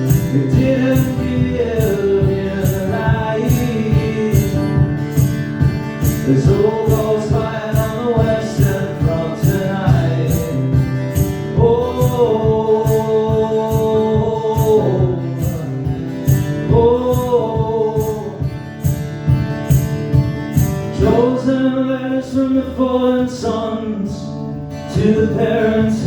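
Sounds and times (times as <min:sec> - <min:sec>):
man singing wordless notes: 0:00.0 - 0:05.3, 0:06.1 - 0:18.6, 0:20.9 - 0:26.0
strummed acoustic guitar: 0:00.0 - 0:26.0.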